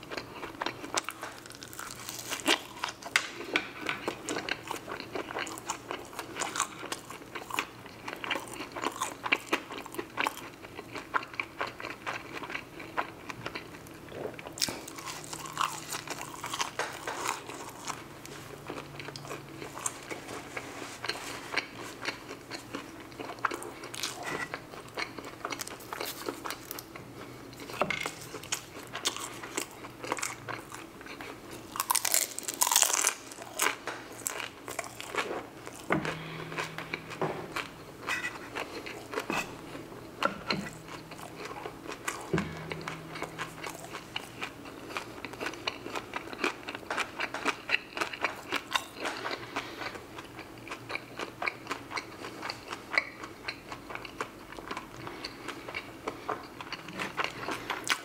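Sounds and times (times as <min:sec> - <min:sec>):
chewing crunchy fries: 0:00.0 - 0:58.0.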